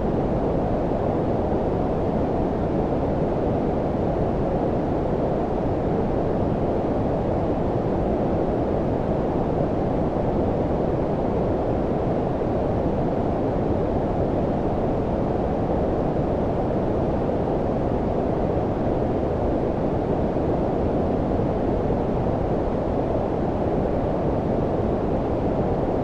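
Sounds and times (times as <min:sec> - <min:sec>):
low-pitched brown noise: 0:00.0 - 0:26.0.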